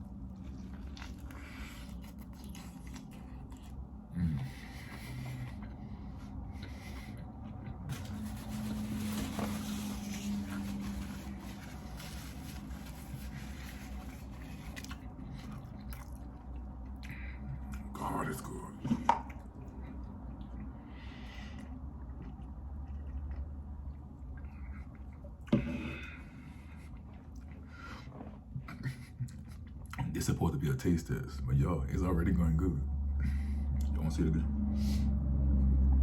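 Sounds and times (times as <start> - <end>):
man chewing food: 0.0 - 30.2
low hum: 0.0 - 36.0.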